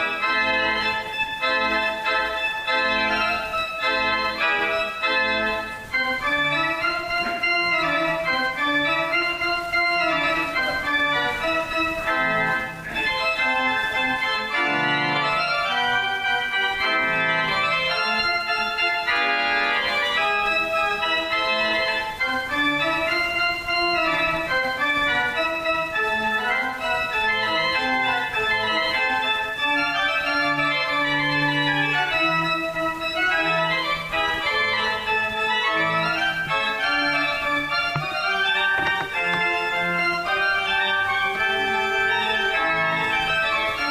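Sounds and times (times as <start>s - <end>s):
organ music: 0.0s - 43.9s.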